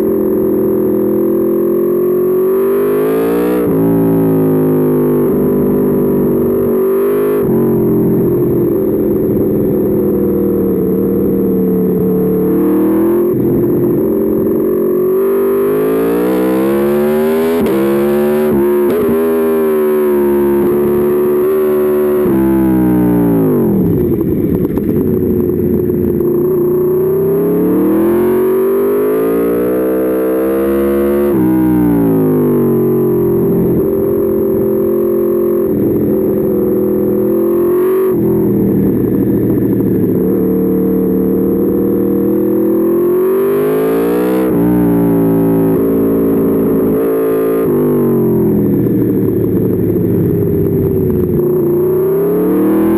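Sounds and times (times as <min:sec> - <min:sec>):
motorcycle engine accelerating hard: 0:00.0 - 0:52.9.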